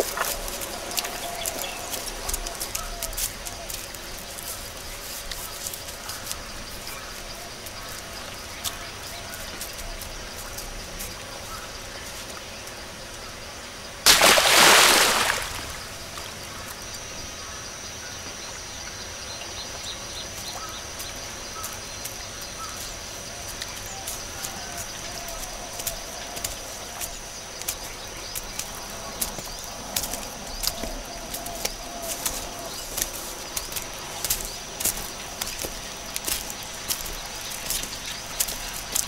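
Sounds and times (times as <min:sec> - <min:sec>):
footsteps crunching on dry leaves: 0:00.0 - 0:12.7, 0:14.1 - 0:16.7, 0:20.2 - 0:39.0
birds chirping: 0:00.0 - 0:39.0.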